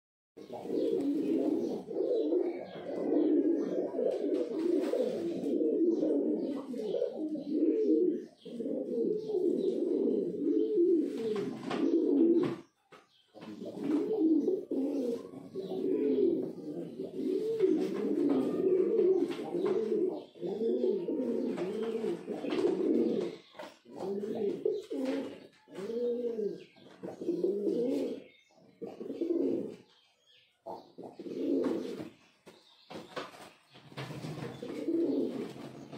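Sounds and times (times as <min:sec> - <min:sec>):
pigeons cooing: 0:00.4 - 0:12.7, 0:13.3 - 0:32.2, 0:33.9 - 0:35.9.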